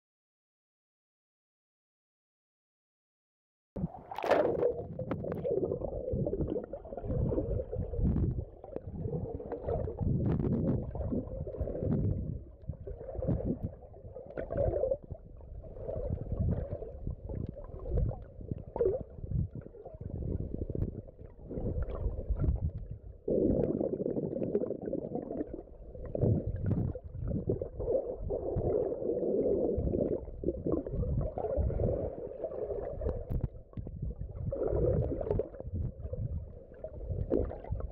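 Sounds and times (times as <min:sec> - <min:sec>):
underwater gurgling and rumbling: 0:03.8 - 0:37.9.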